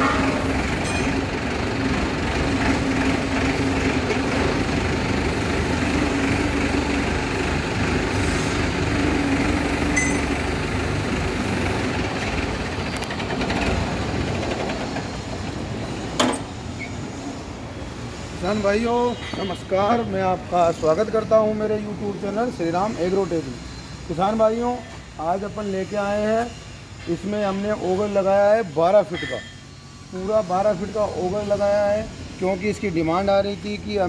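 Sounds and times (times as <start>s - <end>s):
tractor diesel engine running: 0.0s - 28.8s.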